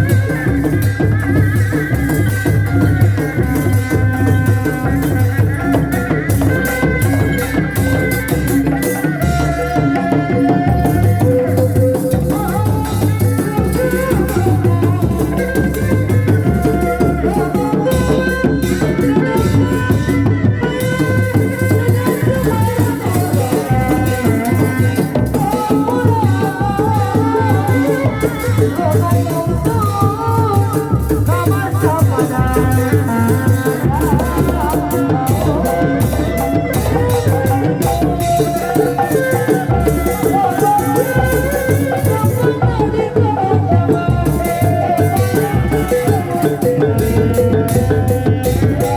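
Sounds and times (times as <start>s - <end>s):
drums beating steady rhythm: 0.0s - 48.9s
high wavering melody: 0.0s - 48.9s.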